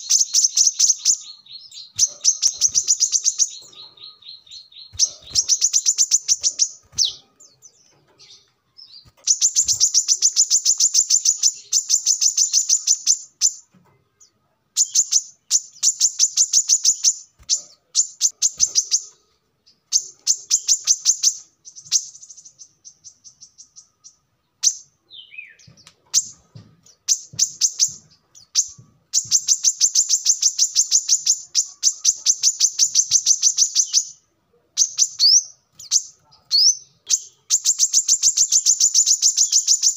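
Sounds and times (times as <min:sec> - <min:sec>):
bird chirping rapidly: 0:00.0 - 0:13.6, 0:14.8 - 0:34.2, 0:34.8 - 0:39.9.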